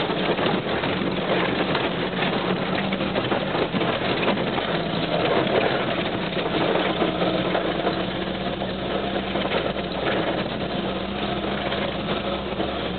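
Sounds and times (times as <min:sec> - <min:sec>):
rough gravel road noise: 0:00.0 - 0:12.9
vehicle engine droning: 0:00.0 - 0:12.9.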